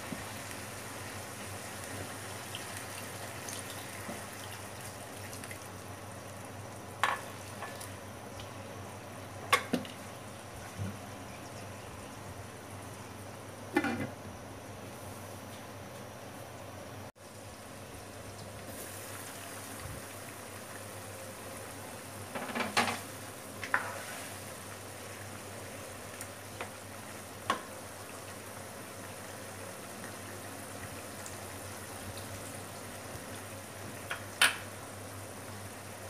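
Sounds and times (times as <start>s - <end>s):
liquid simmering in a wok: 0.0s - 14.1s, 17.2s - 36.0s.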